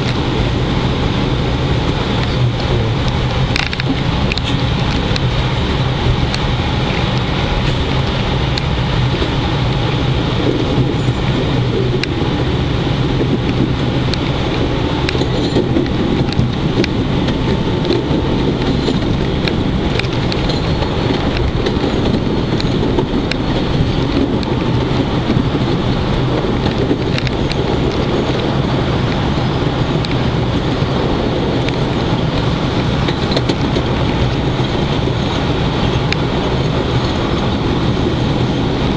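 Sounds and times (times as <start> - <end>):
train wheels rumbling: 0.0 - 38.9.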